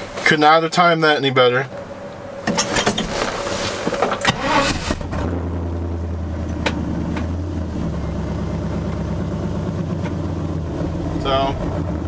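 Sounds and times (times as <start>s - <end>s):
pickup engine cranking and idling: 0.0s - 12.0s.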